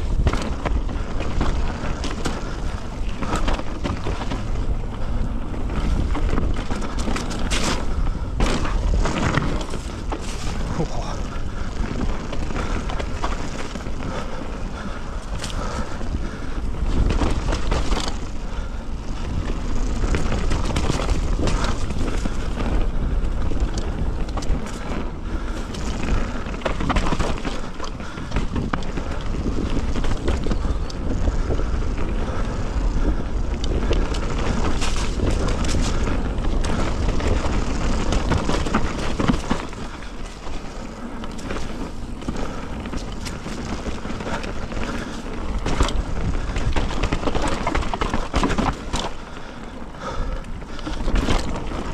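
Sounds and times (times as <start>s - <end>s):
bike rattles and knocks: 0.0s - 51.9s
bike tyres rolling over dirt: 0.0s - 51.9s
wind rumble on microphone: 0.0s - 51.9s.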